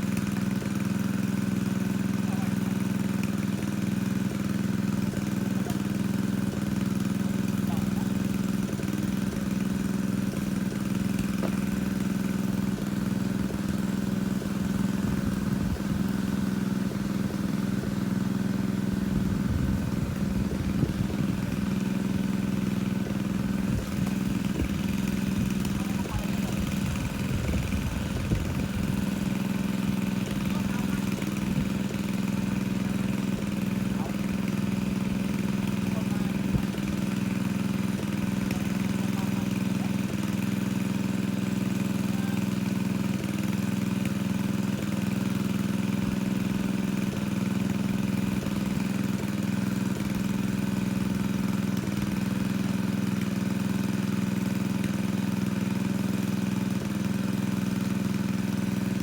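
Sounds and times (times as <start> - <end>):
water pump engine running: 0.0 - 59.0.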